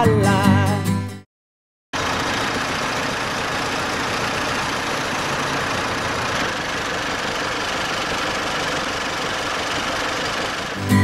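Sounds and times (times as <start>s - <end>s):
tractor diesel engine running: 2.0s - 11.0s.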